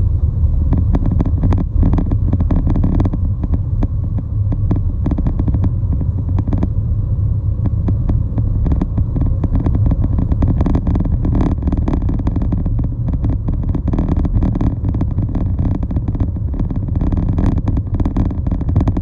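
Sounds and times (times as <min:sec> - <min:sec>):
road and wind noise: 0:00.0 - 0:19.0
vehicle low rumble: 0:00.0 - 0:19.0
small knocks and rattles: 0:00.7 - 0:06.8, 0:07.6 - 0:19.0.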